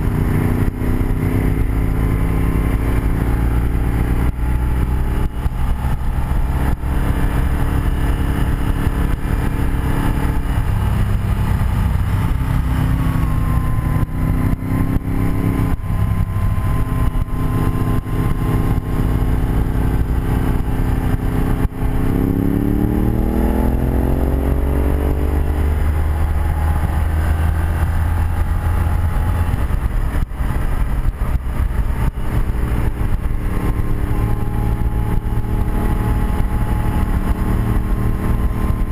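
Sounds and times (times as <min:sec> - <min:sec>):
motorcycle engine: 0:00.0 - 0:38.9
wind rush: 0:00.0 - 0:38.9.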